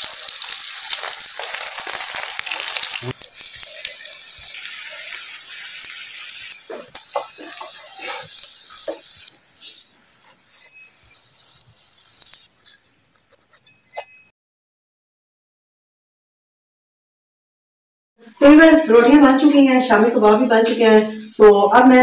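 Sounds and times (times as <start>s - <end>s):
kebabs sizzling in oil: 0.0s - 14.3s, 18.2s - 22.0s.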